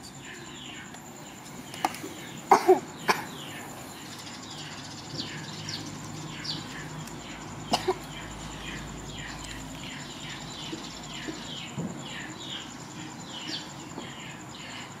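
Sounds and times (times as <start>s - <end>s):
high-pitched insect trill: 0.0s - 15.0s
small birds chirping: 0.0s - 15.0s.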